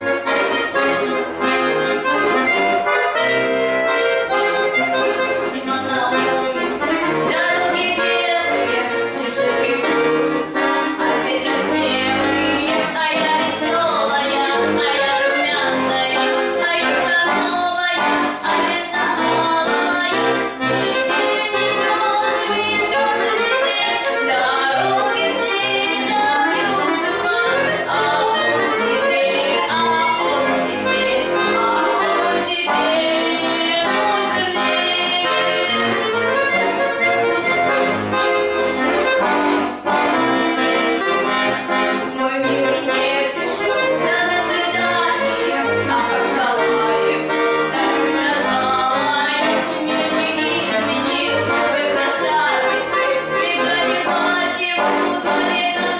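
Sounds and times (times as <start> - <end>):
accordion playing folk tune: 0.0 - 55.9.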